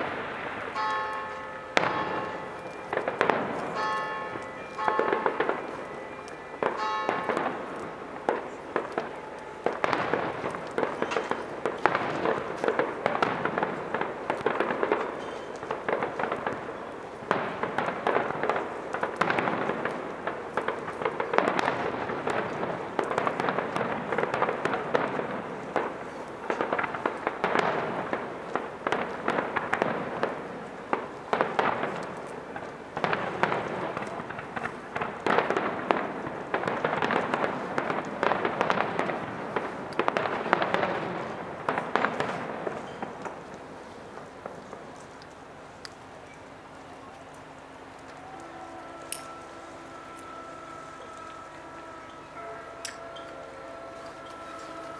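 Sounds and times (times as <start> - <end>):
fireworks crackling and popping: 0.0 - 54.9.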